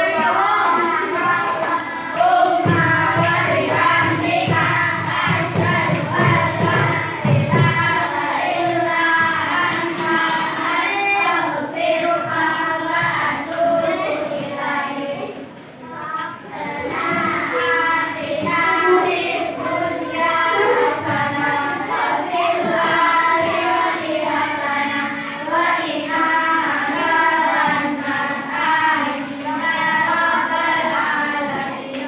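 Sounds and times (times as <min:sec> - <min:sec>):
children singing together: 0:00.0 - 0:32.0.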